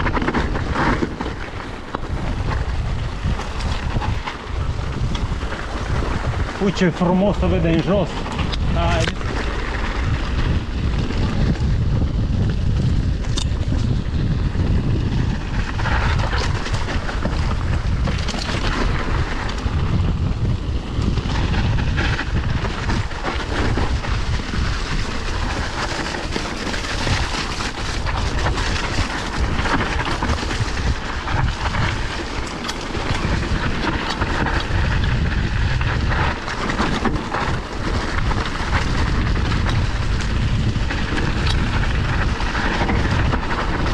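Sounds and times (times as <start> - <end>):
bike knocks and rattles: 0.0 - 6.6, 7.8 - 43.9
bike tyres on dirt trail: 0.0 - 43.9
wind rumbling on microphone: 0.0 - 43.9.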